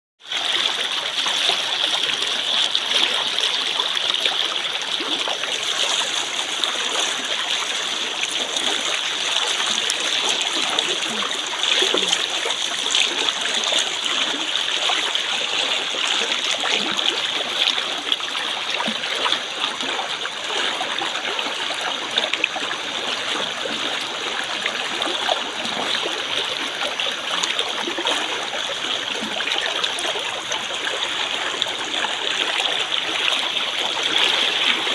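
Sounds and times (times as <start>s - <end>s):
flowing water: 0.2s - 34.9s.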